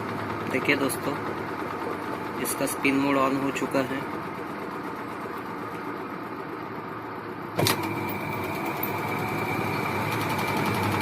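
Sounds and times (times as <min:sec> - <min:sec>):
washing machine spin hum: 0:00.0 - 0:11.0.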